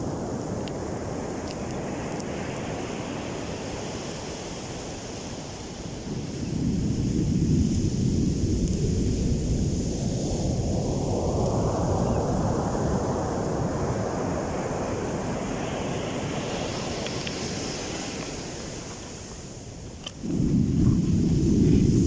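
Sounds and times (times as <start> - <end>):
wave breaking and washing up: 0.0 - 22.0
wind rumbling on microphone: 0.0 - 22.0.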